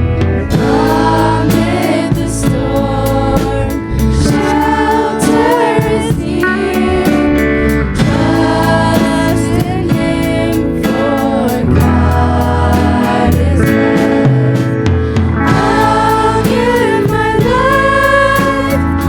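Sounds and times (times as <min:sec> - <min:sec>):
choir singing worship song: 0:00.0 - 0:19.0
instrumental backing: 0:00.0 - 0:19.0
steady drum beat: 0:00.0 - 0:19.0.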